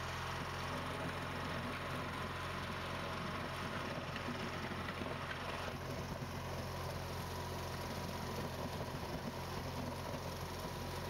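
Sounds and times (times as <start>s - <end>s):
plow blade pushing snow: 0.0s - 11.0s
tractor engine running: 0.0s - 11.0s.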